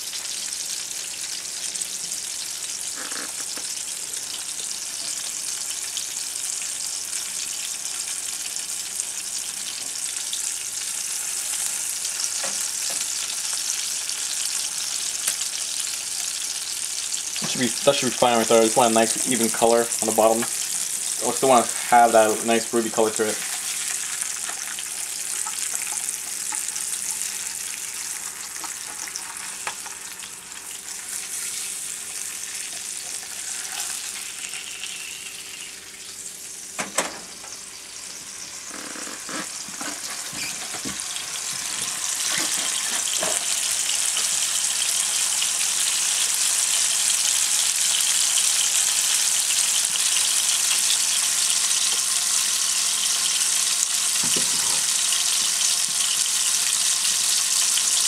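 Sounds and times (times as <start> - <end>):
fish sizzling in hot oil: 0.0 - 36.8, 37.5 - 58.0.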